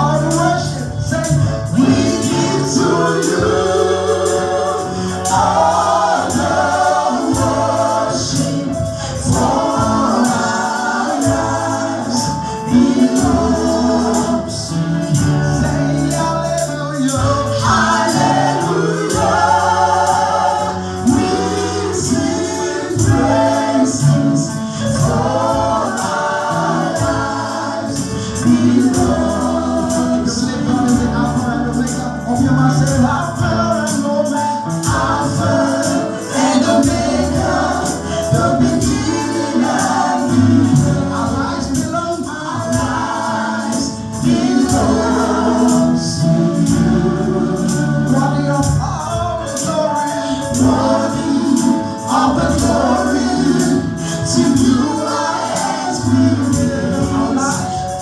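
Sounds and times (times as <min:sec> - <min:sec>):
choir singing: 0:00.0 - 0:33.4, 0:34.4 - 0:49.0, 0:50.2 - 0:58.0
shakers or tambourine: 0:00.0 - 0:58.0.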